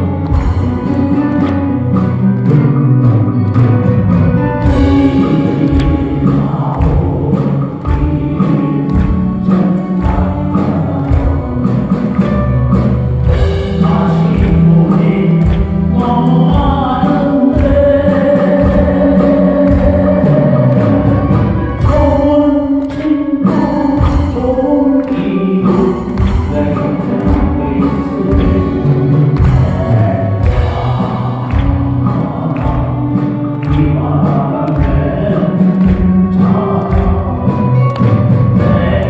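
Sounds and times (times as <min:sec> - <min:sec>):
live band music with singing: 0:00.0 - 0:39.0.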